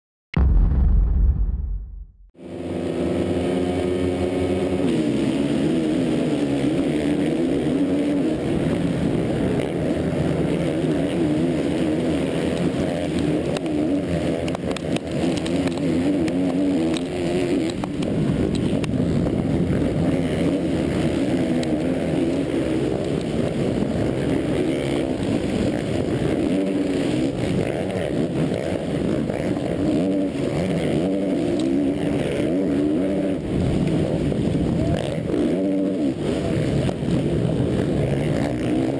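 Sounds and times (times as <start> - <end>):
motocross bike engine revving: 2.4 - 38.9.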